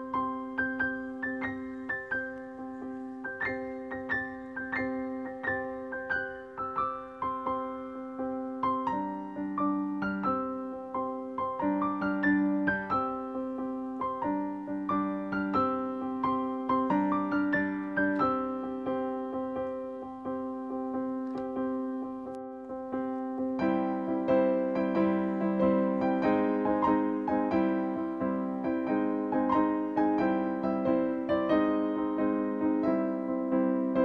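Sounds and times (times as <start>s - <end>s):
piano-like keyboard music: 0.0s - 34.0s.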